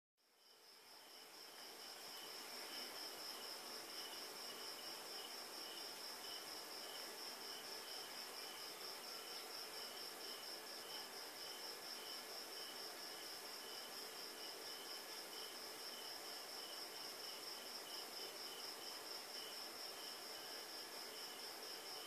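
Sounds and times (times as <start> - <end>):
crickets chirping: 0.2 - 22.0
lower cricket chirping: 0.2 - 22.0.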